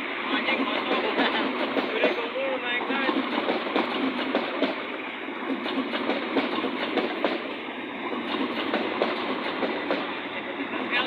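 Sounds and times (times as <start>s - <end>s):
train rumble: 0.0s - 11.0s
train wheels clattering: 0.5s - 11.0s.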